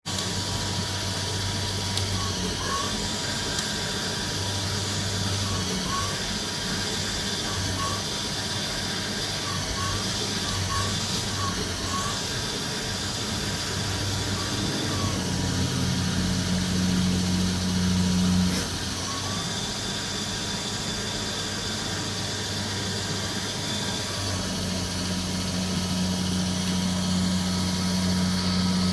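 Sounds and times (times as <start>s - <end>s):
high machine whine: 0.1s - 28.9s
lathe machine hum: 0.1s - 28.9s.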